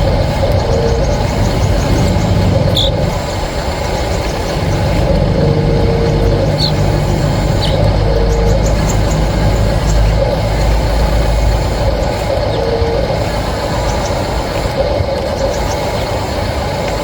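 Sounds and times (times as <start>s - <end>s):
model vehicles mechanical rumble: 0.0s - 17.0s
motor whine: 0.0s - 17.0s.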